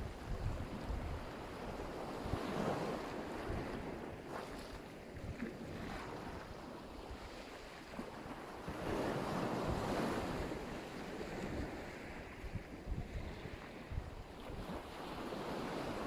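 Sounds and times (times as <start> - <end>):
wind buffeting microphone: 0.0 - 7.4, 8.3 - 16.0
waves breaking on shore: 0.0 - 16.0.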